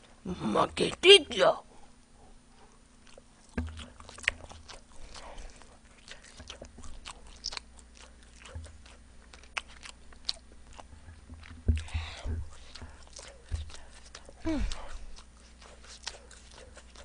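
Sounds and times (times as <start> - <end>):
person chewing crunchy chicken: 3.0 - 17.0.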